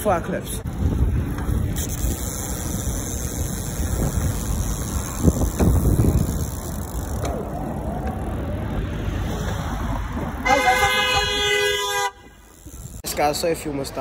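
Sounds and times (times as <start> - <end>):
bicycle tyres rolling on tarmac: 0.0 - 14.0
wind rumbling on microphone: 0.4 - 13.0.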